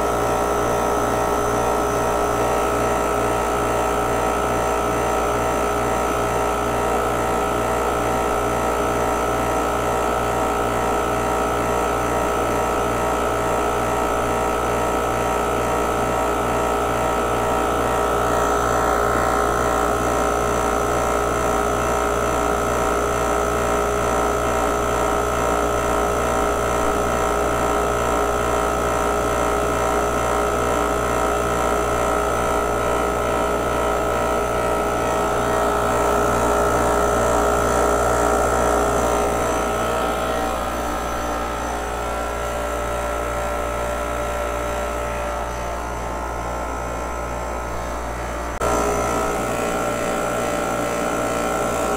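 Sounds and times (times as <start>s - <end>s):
recovery machine compressor humming: 0.0s - 51.9s.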